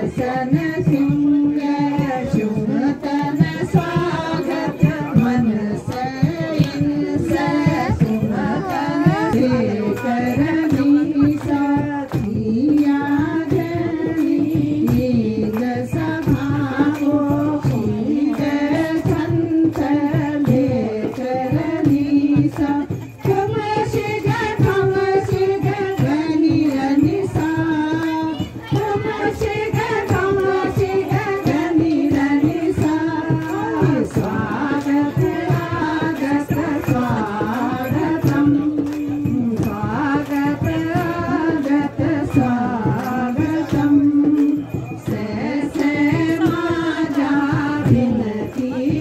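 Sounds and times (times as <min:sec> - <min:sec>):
folk song singing: 0:00.0 - 0:49.0
steady percussion beat: 0:00.0 - 0:49.0.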